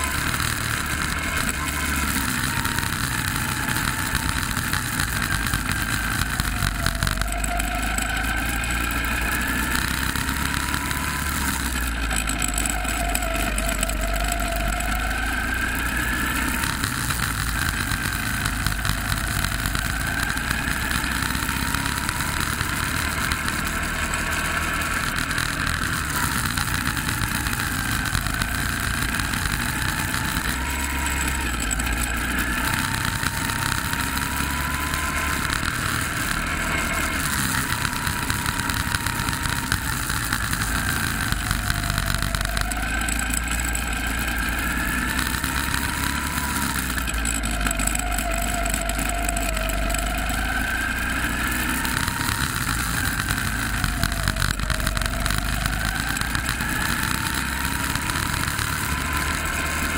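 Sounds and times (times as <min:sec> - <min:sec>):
go-kart motor revving: 0:00.0 - 0:59.9.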